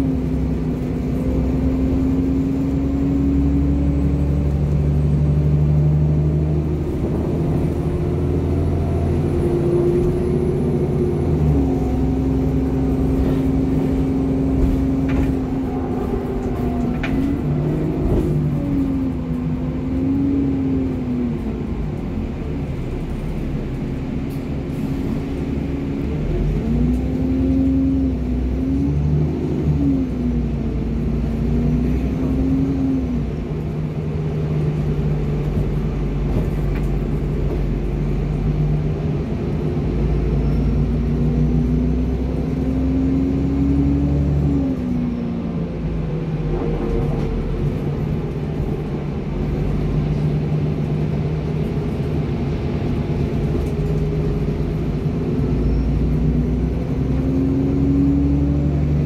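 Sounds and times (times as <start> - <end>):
bus engine pulling hard: 0.0 - 59.0.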